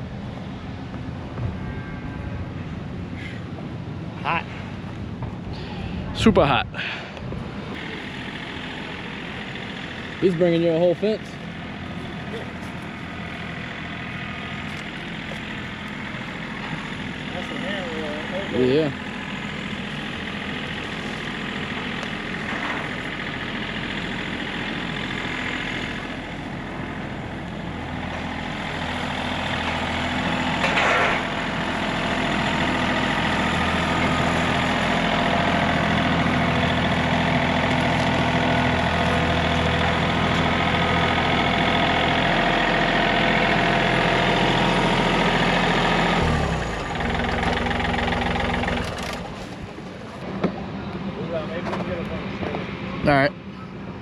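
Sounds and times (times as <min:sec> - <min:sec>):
vehicle engine running: 0:02.9 - 0:54.0.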